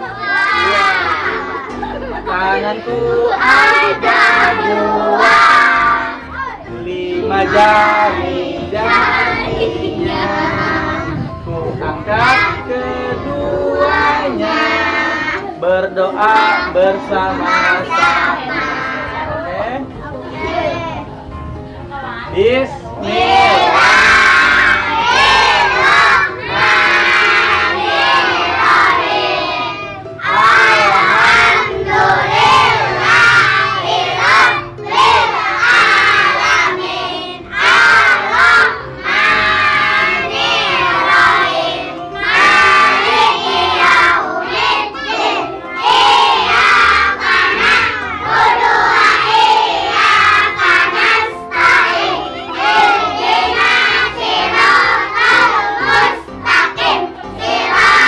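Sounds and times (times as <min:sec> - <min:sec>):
children reciting in unison: 0:00.0 - 0:19.3, 0:23.0 - 0:58.0.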